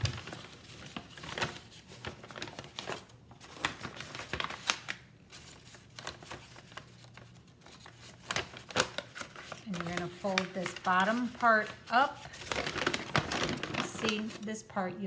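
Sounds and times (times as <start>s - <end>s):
paper bag rustling: 0.0s - 14.7s.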